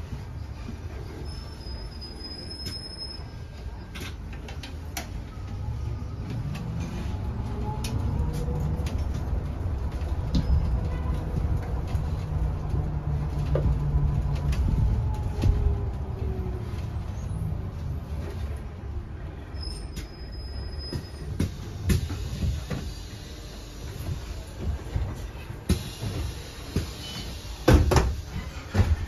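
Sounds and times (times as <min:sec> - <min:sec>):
bus interior rumble: 0:00.0 - 0:29.0.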